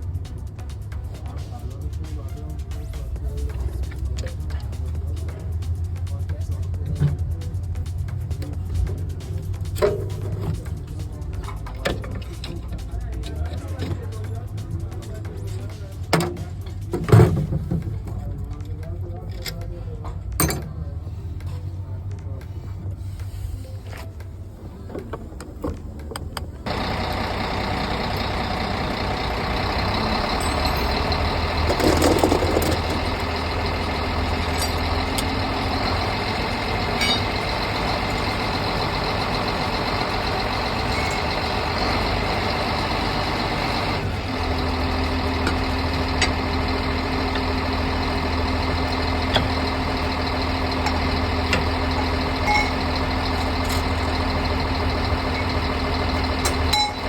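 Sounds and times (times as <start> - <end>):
heavy vehicle engine idling: 0.0 - 57.0.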